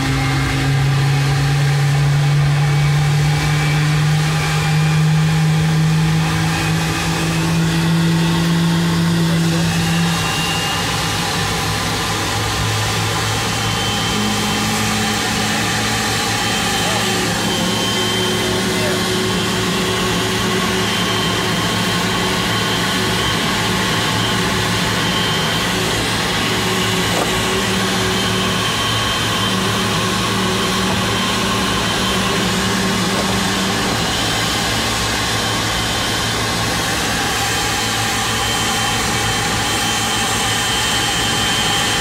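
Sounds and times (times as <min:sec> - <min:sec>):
jet engine whine: 0:00.0 - 0:42.0.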